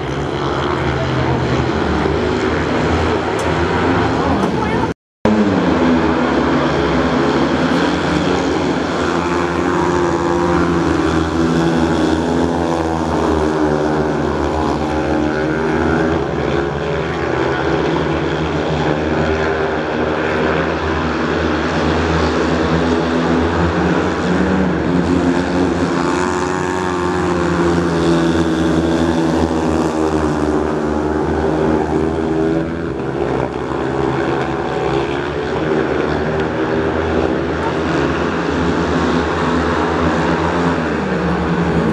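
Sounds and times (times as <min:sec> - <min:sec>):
motorcycles racing: 0:00.0 - 0:41.9.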